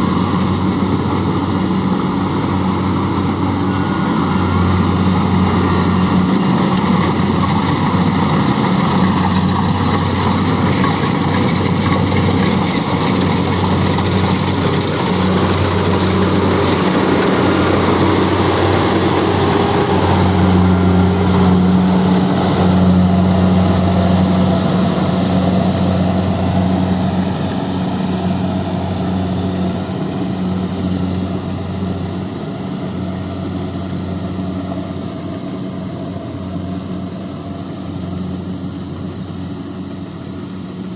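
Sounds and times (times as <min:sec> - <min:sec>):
harvesting machine engine hum: 0:00.0 - 0:40.9.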